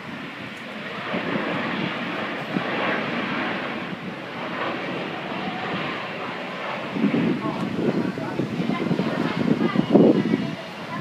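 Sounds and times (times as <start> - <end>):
jet airliner flying low: 0.0 - 11.0.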